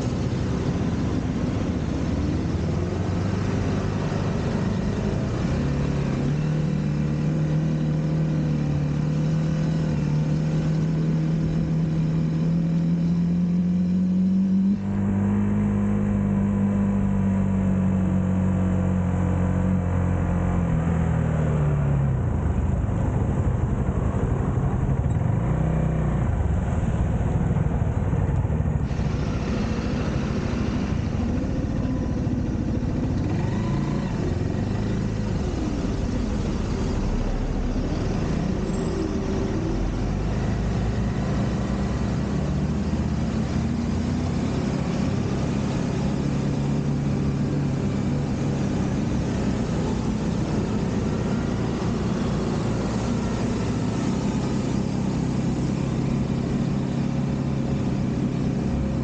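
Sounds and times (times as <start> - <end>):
motorcycle engine: 0.0 - 59.0
road and wind noise hiss: 0.0 - 59.0.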